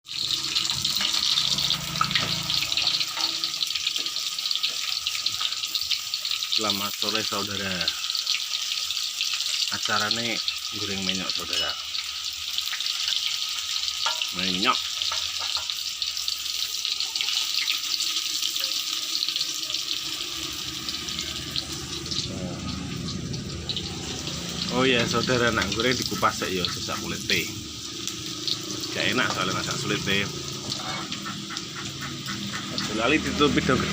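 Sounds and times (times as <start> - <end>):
food frying in hot oil: 0.0 - 33.9.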